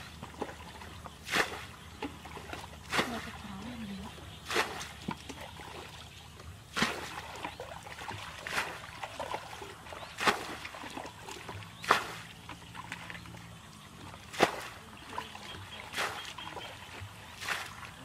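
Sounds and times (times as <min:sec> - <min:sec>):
bucket of water splashing: 0:00.0 - 0:13.4, 0:14.0 - 0:18.0.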